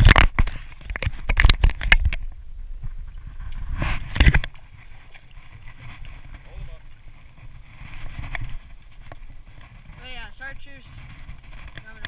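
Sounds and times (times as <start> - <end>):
sharp knocks and rustles: 0.0 - 12.0
wind rumble on microphone: 0.0 - 12.0.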